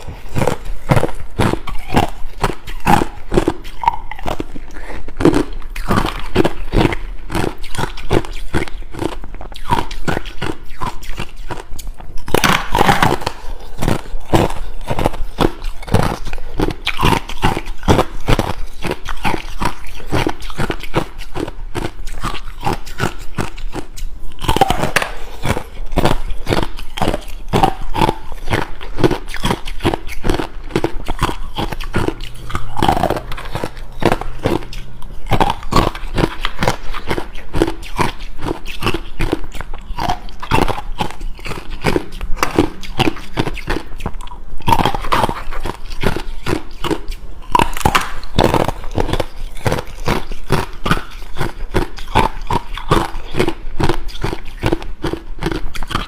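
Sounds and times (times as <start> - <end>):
ice crunching between teeth: 0.0 - 56.0.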